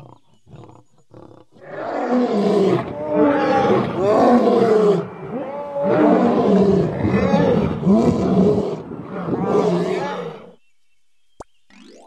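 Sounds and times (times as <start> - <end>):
lion roaring: 0.6 - 10.6.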